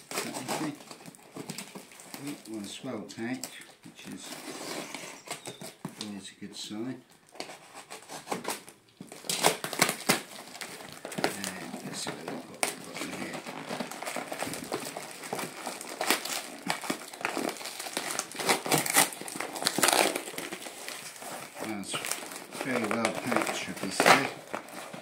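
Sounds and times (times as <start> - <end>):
cardboard and tape tearing: 0.0 - 6.1, 7.3 - 25.0.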